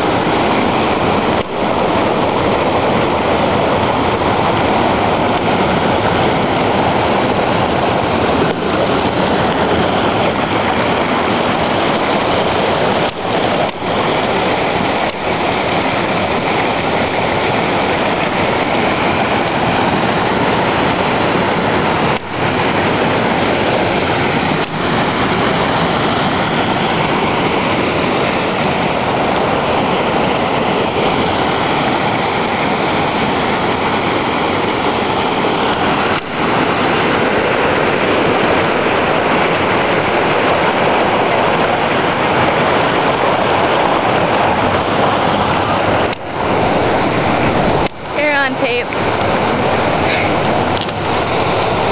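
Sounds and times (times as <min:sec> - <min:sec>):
river water pouring over rocks: 0:00.0 - 0:51.9.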